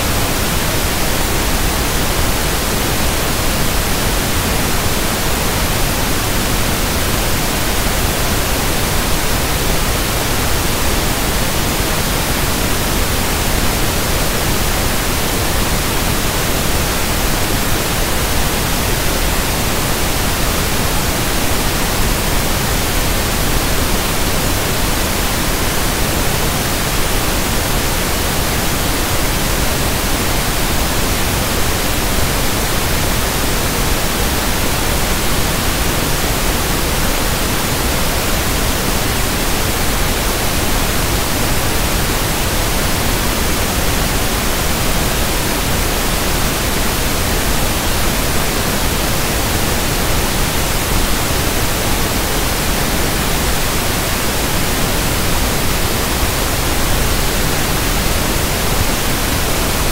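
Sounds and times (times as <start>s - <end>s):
pink noise hiss: 0.0s - 59.9s.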